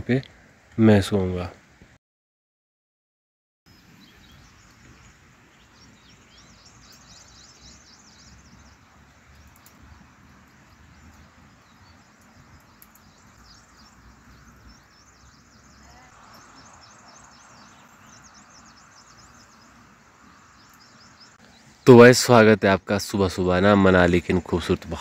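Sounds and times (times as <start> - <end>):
outdoor background hiss: 0.0 - 2.0, 3.7 - 25.0
faint birds chirping: 3.7 - 25.0.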